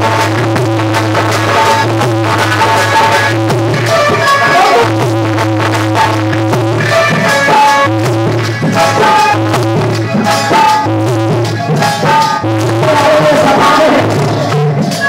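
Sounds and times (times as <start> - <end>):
hand drum fast rhythm: 0.0 - 15.0.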